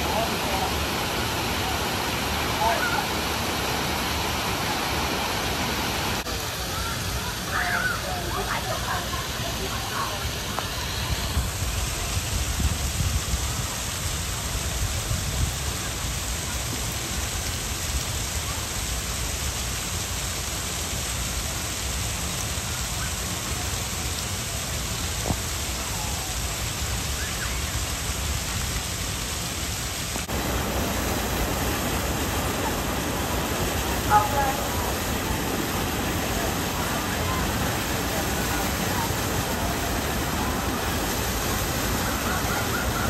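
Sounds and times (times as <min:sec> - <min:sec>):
churning water rushing: 0:00.0 - 0:43.0.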